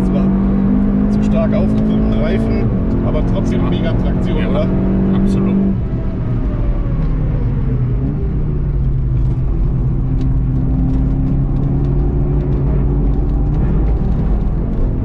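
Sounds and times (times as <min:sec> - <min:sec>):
car engine from inside cabin: 0:00.0 - 0:15.0
tyre and road rumble: 0:00.0 - 0:15.0.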